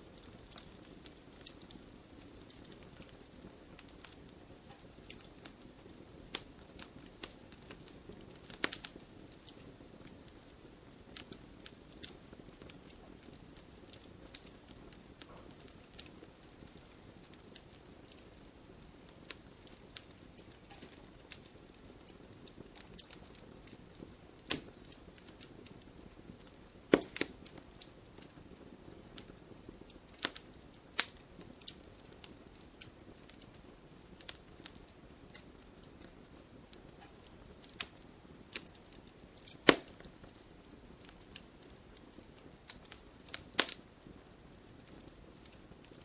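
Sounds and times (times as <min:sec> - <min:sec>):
campfire crackling and popping: 0:00.0 - 0:46.0
low steady hiss: 0:00.0 - 0:46.0.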